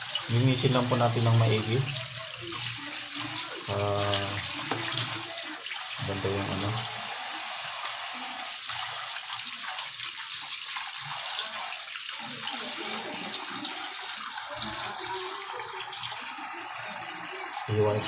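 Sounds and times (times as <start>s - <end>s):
tap water running and splashing: 0.0s - 18.0s.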